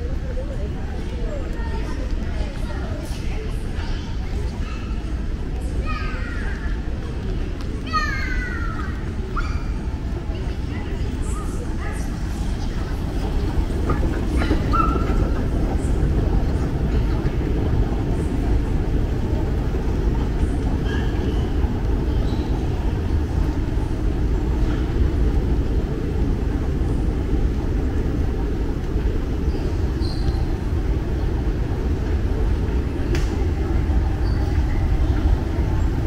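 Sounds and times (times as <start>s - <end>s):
faint concourse noise: 0.0s - 36.0s
moving walkway rumble: 0.0s - 36.0s.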